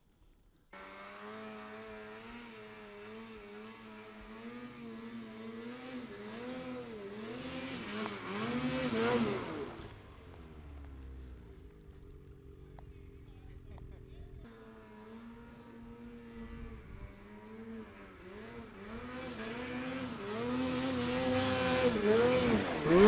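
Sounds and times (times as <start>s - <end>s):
snowmobile engine revving: 0.8s - 23.0s.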